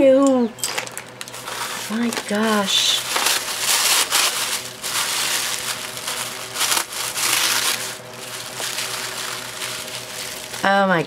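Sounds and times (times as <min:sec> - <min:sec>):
tissue paper crinkling: 0:00.8 - 0:11.0.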